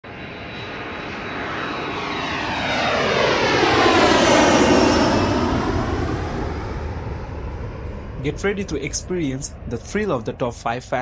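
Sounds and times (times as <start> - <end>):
jet roar taking off: 0.0 - 11.0.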